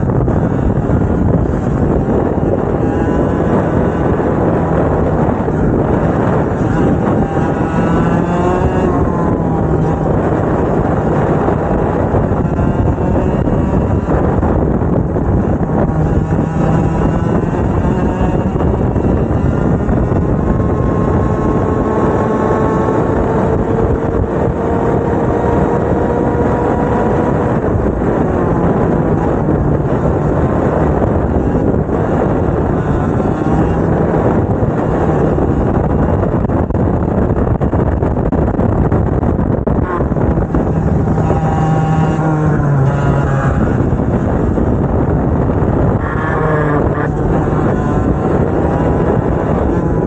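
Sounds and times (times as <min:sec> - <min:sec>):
kart engines buzzing: 0:00.0 - 0:50.0.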